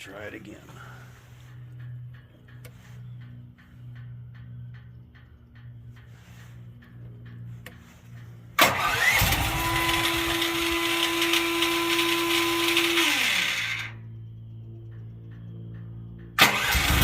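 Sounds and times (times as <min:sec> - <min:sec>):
generator engine starting and running: 0:00.0 - 0:17.0
steady whine: 0:00.0 - 0:17.0.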